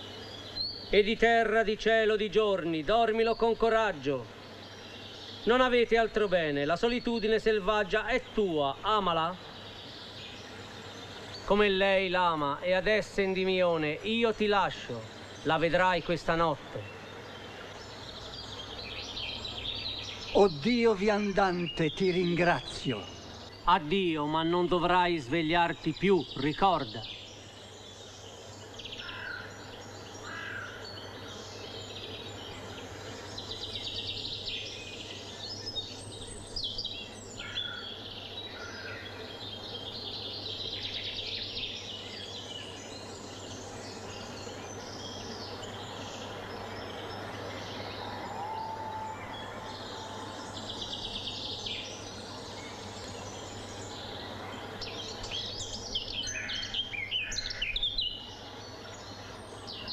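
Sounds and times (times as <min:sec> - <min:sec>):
background hiss: 0:00.0 - 0:59.9
songbirds chirping: 0:00.0 - 0:59.9.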